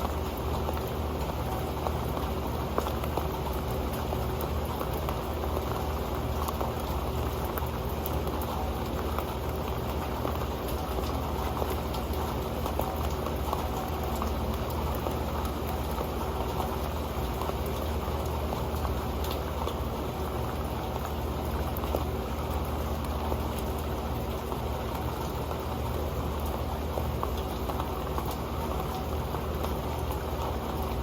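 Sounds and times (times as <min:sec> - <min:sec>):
raindrops ticking on metal pan: 0:00.0 - 0:31.0.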